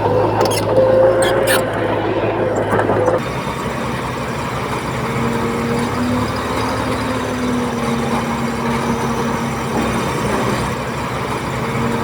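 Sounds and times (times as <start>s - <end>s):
steady whine: 0.0s - 9.8s
earthmoving machinery diesel engine: 0.0s - 12.0s.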